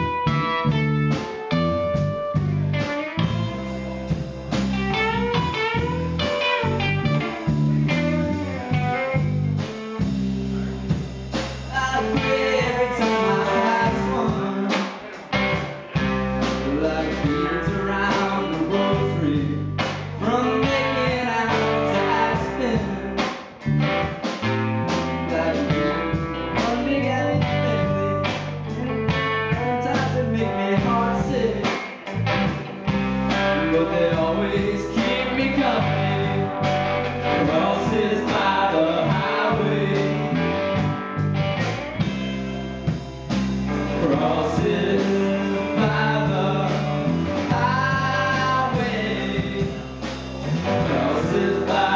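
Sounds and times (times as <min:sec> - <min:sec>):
bending electric guitar lines: 0:00.0 - 0:11.0, 0:11.7 - 0:51.9
rock band playing: 0:00.0 - 0:51.9.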